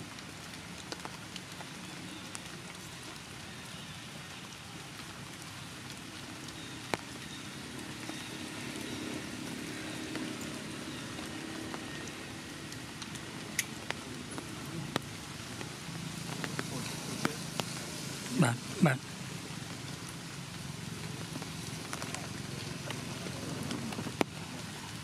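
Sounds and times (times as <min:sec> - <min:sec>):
raindrops ticking close by: 0:00.0 - 0:25.0
steady rain hiss: 0:00.0 - 0:25.0.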